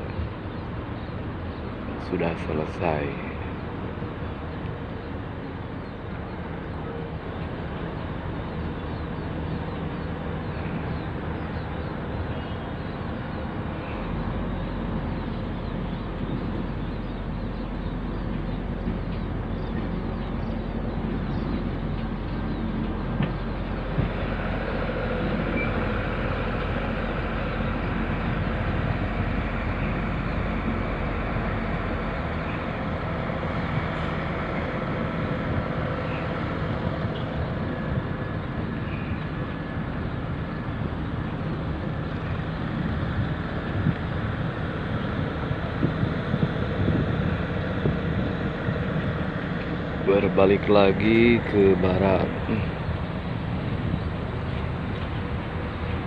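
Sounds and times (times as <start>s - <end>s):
diesel engine rumble: 0.0s - 56.0s.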